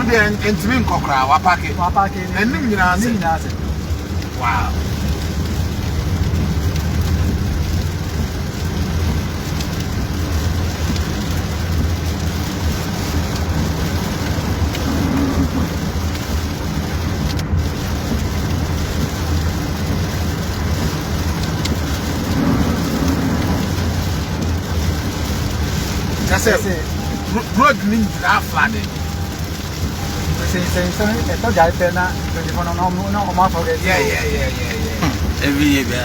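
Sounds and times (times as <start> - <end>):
vehicle rumble: 0.0 - 36.0.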